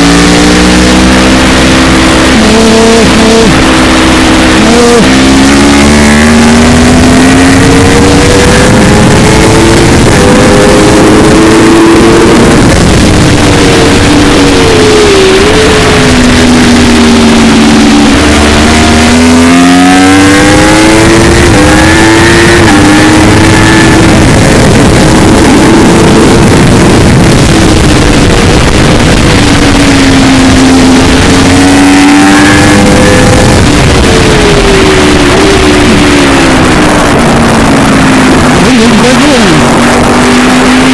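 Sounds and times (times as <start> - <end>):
vehicle engine accelerating: 0.0 - 40.9
wind noise on microphone: 0.0 - 40.9.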